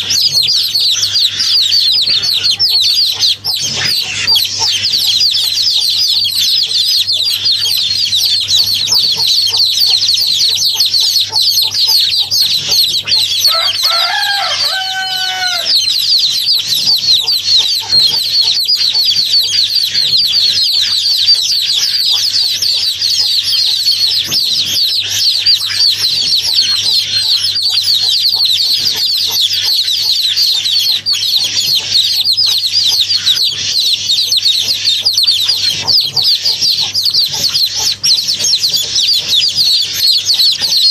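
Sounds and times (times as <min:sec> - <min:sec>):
lower bird call: 0:00.0 - 0:40.9
small birds peeping: 0:00.0 - 0:40.9.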